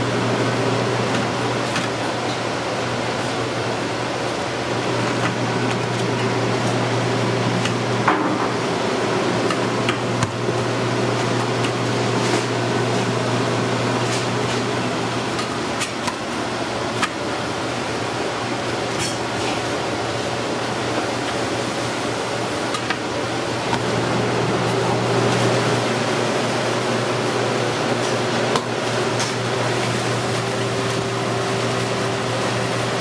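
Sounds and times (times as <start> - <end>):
kitchen hum and fan noise: 0.0 - 33.0.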